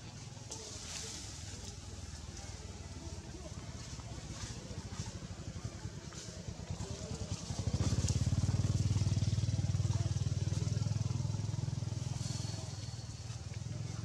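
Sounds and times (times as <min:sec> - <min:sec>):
small engine running: 0:01.6 - 0:14.0.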